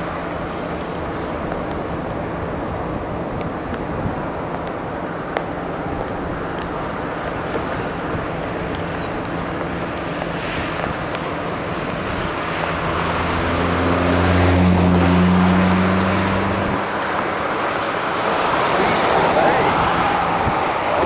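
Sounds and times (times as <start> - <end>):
low engine drone: 0.0 - 21.0
road and wind noise: 0.0 - 21.0.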